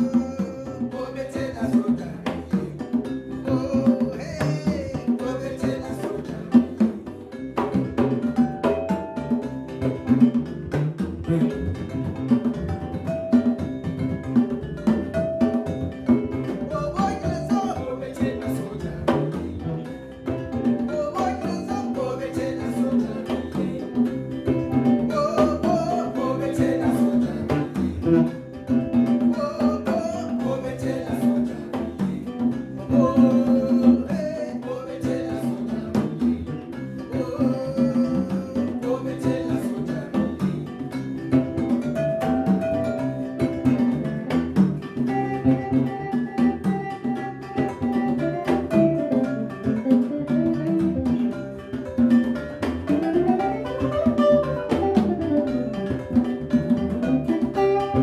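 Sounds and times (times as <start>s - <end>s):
acoustic bass guitar: 0.0s - 58.0s
electric guitar: 0.0s - 58.0s
hand drum: 0.0s - 58.0s
wooden xylophone struck with mallets: 0.0s - 58.0s.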